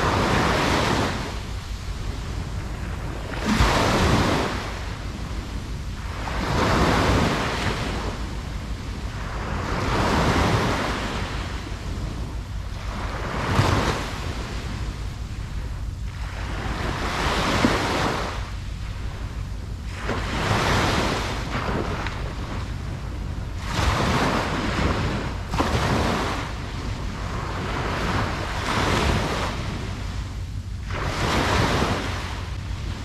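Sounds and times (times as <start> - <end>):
ocean waves breaking on beach: 0.0 - 33.0.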